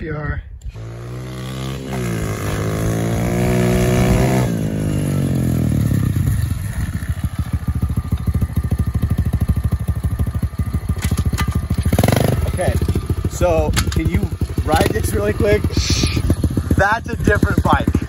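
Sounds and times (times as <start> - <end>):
pit bike engine running: 0.7 - 18.0.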